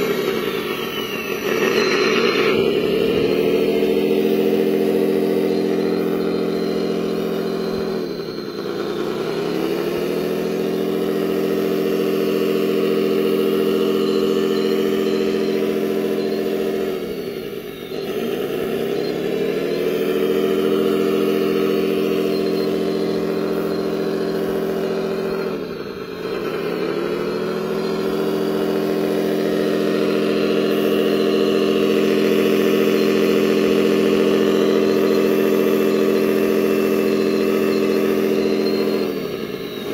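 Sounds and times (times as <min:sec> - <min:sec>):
toy loader engine drone: 0:00.0 - 0:39.9.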